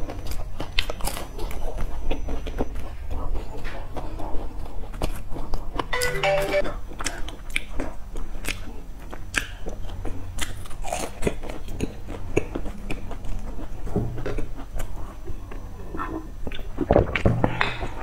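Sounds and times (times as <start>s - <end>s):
chewing crisp pastry: 0.0s - 5.9s, 6.7s - 18.0s.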